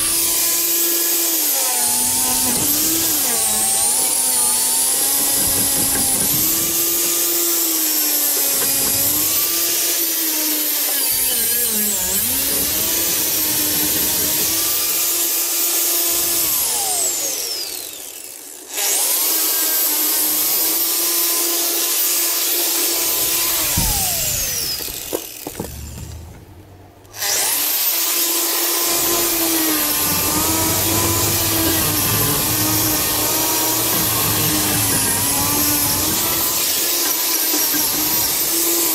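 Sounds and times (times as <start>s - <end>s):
angle grinder whining: 0.0s - 38.9s
grinder winding down: 0.0s - 38.9s.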